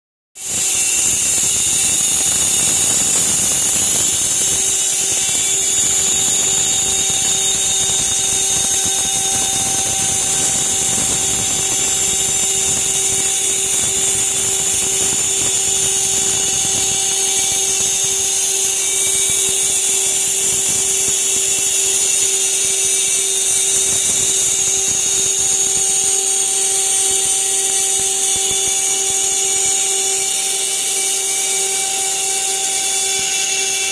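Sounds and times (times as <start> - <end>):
router spindle milling metal: 0.4 - 33.9.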